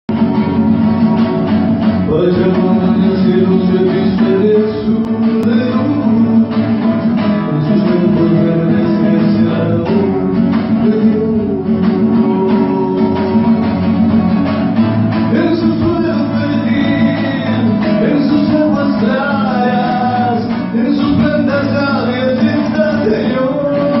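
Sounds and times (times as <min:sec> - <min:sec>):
acoustic guitar playing: 0:00.1 - 0:24.0
man singing: 0:01.8 - 0:24.0.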